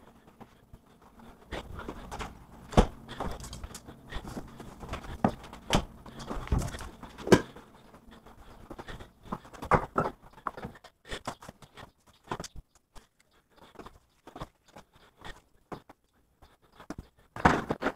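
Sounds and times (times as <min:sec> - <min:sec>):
footsteps on tiled floor: 0:00.0 - 0:17.2.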